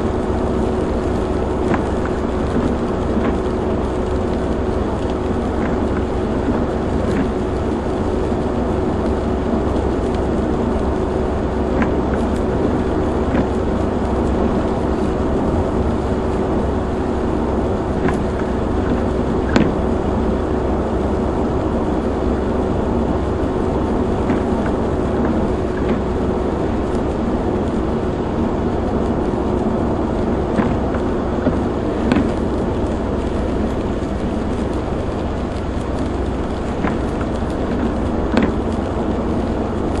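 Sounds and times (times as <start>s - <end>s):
tyre hiss on wet road: 0.0s - 40.0s.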